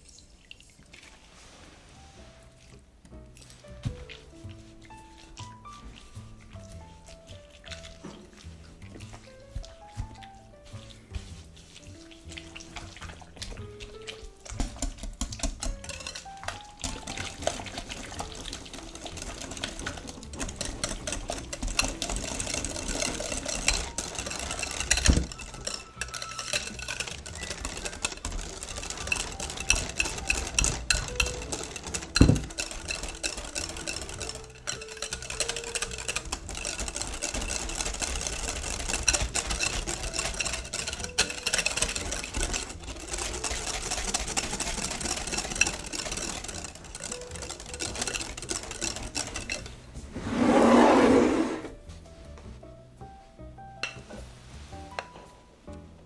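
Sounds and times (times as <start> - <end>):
utensil stirring in a mixing bowl: 0.0 - 52.5.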